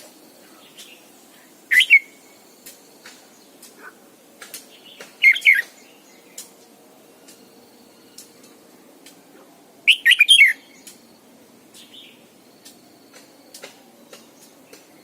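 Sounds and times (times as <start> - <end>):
bird warbled song: 0.0 - 15.0
faint bird chirps: 0.4 - 4.0, 4.7 - 8.5, 9.9 - 15.0.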